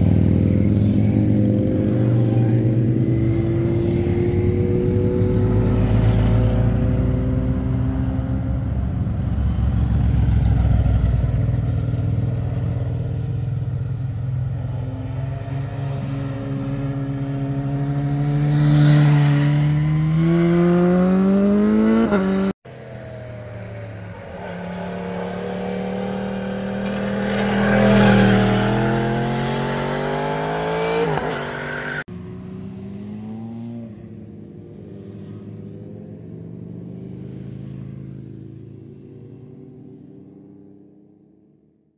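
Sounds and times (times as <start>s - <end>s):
motorcycles accelerating past: 0.0s - 41.0s.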